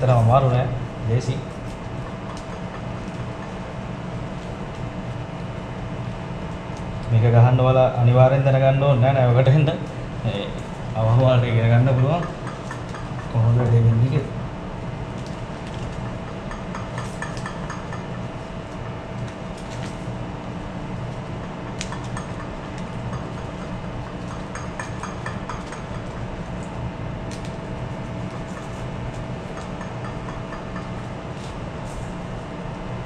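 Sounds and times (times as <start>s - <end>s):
ship machinery hum: 0.0s - 33.0s.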